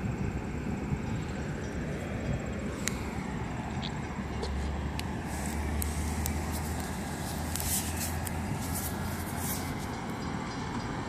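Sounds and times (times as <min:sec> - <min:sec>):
train idling low rumble: 0:00.0 - 0:11.0.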